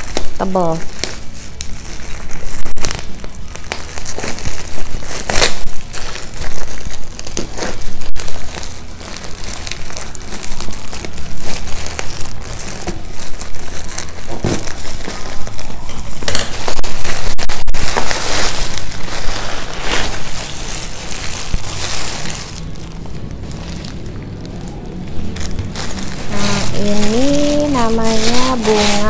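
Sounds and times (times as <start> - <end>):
plastic wrapping crinkling: 0.0 - 29.0.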